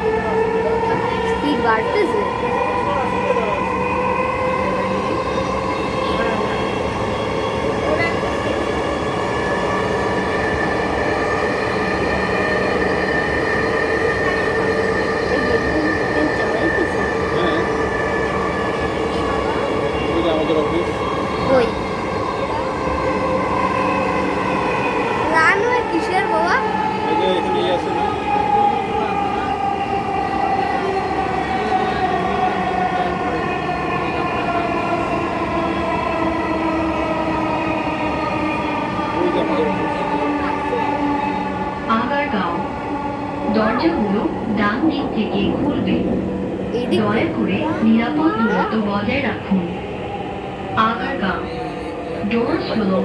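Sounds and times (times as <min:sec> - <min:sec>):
train rumble inside carriage: 0:00.0 - 0:53.0.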